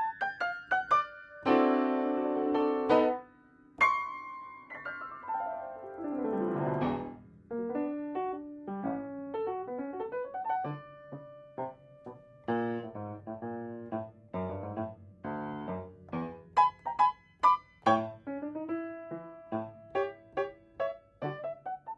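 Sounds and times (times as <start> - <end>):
solo piano music: 0.0 - 21.9.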